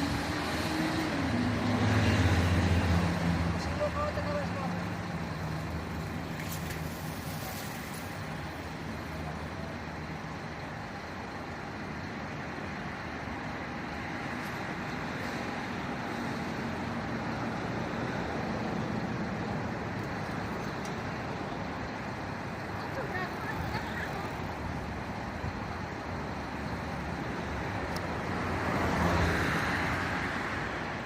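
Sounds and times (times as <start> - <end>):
road traffic with engine hum: 0.0 - 31.0.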